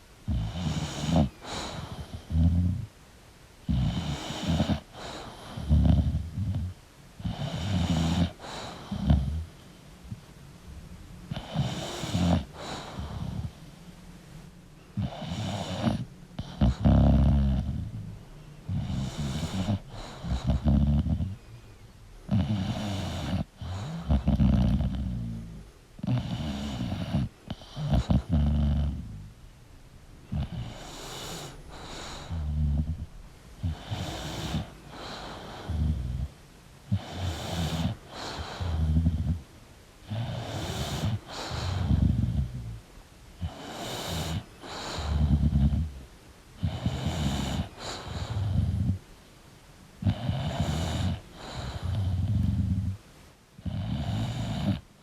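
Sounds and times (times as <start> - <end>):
dog snoring: 0.0 - 2.9, 3.6 - 10.2, 11.3 - 13.7, 15.0 - 21.4, 22.3 - 29.4, 30.3 - 39.4, 40.0 - 42.8, 43.4 - 46.0, 46.6 - 49.1, 50.0 - 53.0, 53.6 - 55.0.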